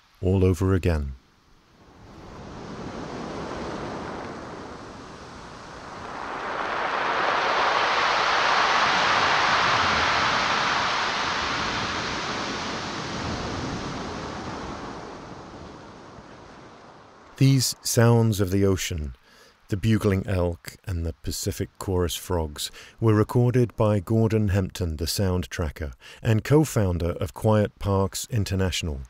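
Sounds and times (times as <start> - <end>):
ocean waves washing ashore: 1.3 - 24.6.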